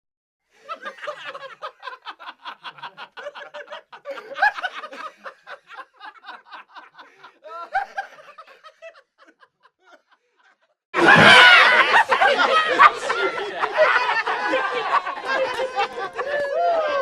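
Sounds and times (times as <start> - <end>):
young men laughing: 0.6 - 17.0.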